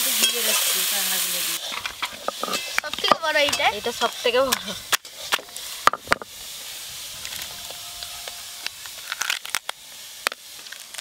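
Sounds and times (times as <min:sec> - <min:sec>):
prawns frying in oil: 0:00.0 - 0:11.0.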